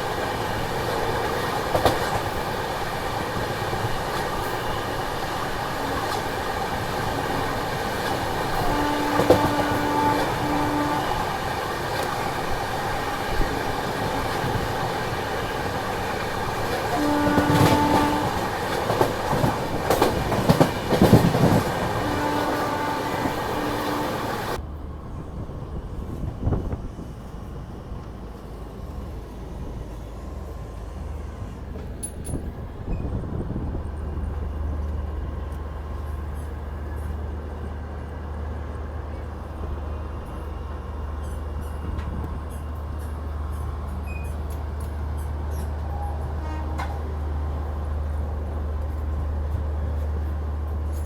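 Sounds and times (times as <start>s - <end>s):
train running on rails: 0.0s - 51.0s.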